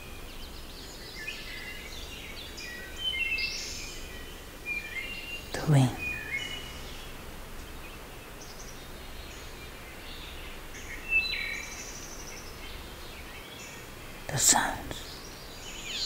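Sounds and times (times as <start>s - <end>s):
bird chirps and calls: 0.0s - 16.0s
low background rumble: 0.0s - 16.0s.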